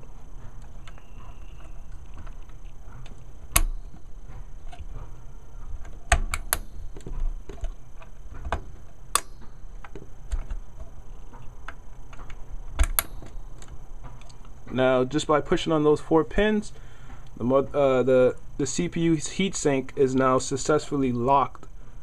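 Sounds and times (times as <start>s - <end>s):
handling ticks: 0.0s - 21.8s.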